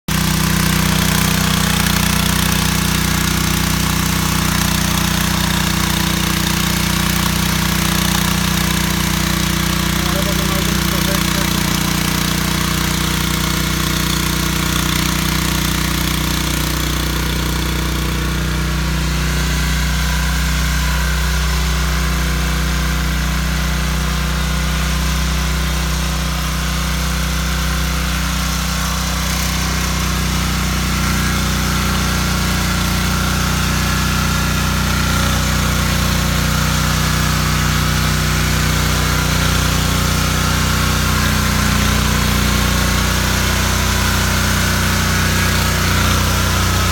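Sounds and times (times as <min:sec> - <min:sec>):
tiller engine running: 0:00.1 - 0:46.9.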